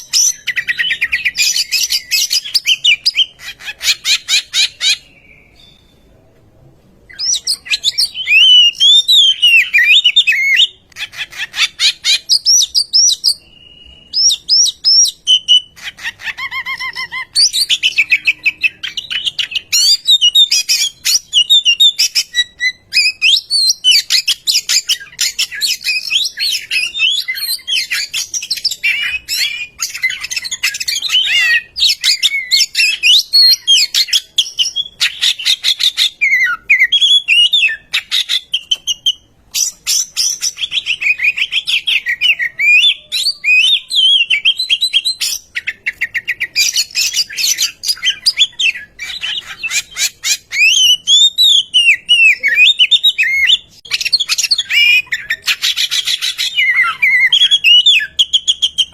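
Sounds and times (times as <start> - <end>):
bird singing whistles and chatter: 7.1 - 58.9.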